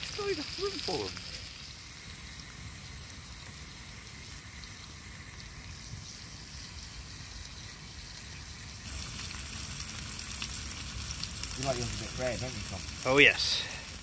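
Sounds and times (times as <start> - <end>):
steaks sizzling in a pan: 0.0 - 14.0.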